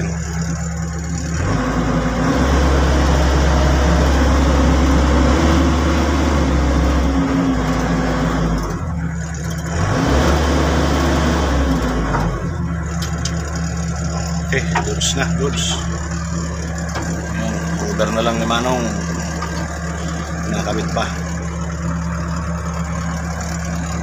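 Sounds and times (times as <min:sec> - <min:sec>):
excavator diesel engine revving: 0:00.0 - 0:24.0.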